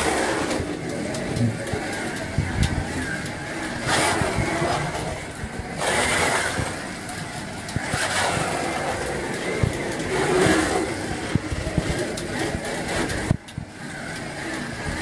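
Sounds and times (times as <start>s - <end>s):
car rattling over plastic track: 0.0s - 15.0s
slot car motor whine: 0.0s - 15.0s.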